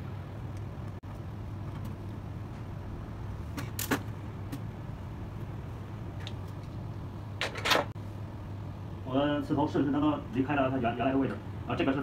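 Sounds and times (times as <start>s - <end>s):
air handling hum: 0.0s - 12.0s.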